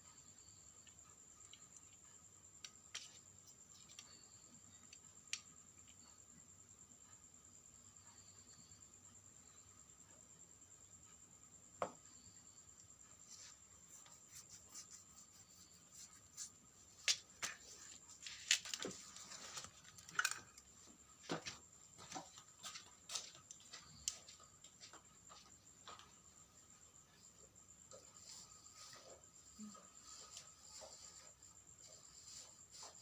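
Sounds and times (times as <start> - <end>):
faint steady high whine: 0.0 - 33.0.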